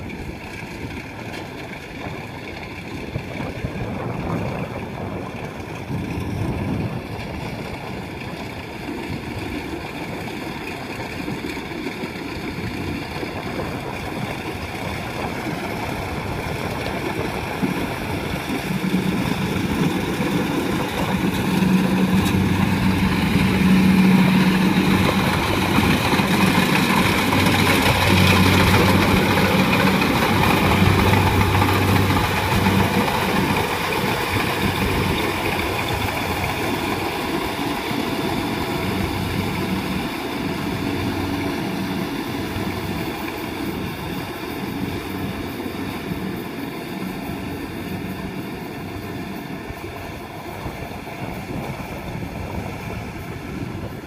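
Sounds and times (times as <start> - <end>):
combine harvester diesel drone: 0.0 - 54.0.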